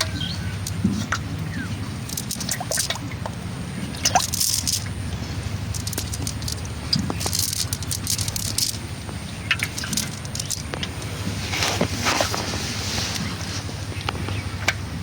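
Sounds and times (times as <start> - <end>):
rattling and clicking: 0.0 - 12.5
steady low hum: 0.0 - 15.0.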